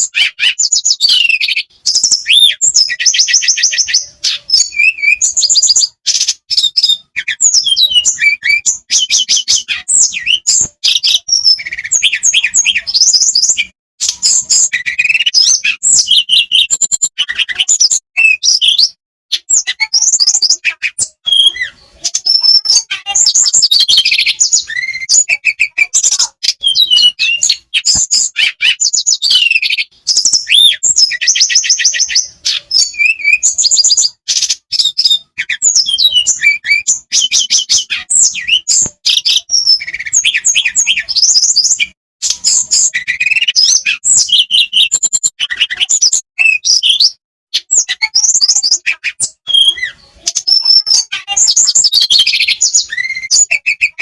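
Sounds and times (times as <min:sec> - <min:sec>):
bird singing trills: 0:00.0 - 0:54.0.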